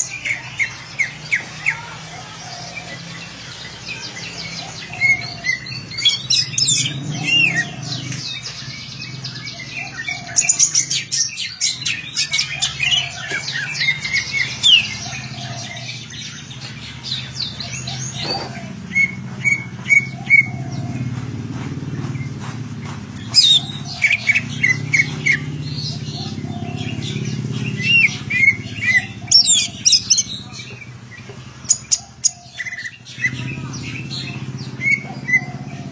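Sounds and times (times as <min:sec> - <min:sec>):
bird chirping and whistling: 0:02.6 - 0:21.0, 0:23.2 - 0:35.9.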